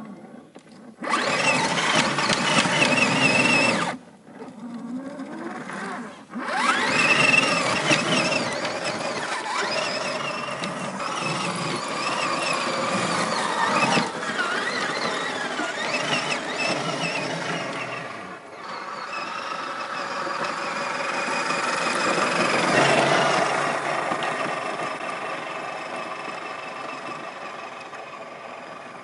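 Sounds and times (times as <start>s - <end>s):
rc car motor whine: 0.2s - 29.0s.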